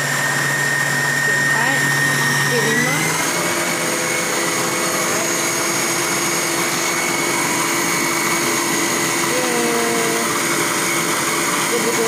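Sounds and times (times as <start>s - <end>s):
stand mixer motor whirring: 0.0s - 12.0s.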